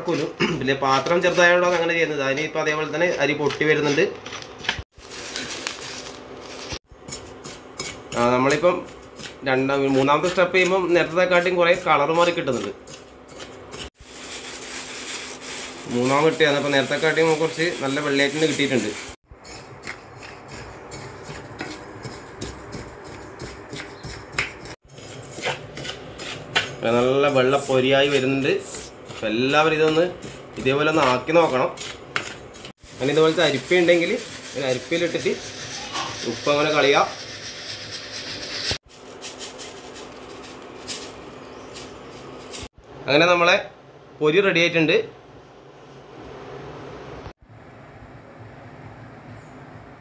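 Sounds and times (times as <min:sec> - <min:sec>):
rice stirred in hot sand: 0:00.0 - 0:13.1, 0:13.8 - 0:42.8.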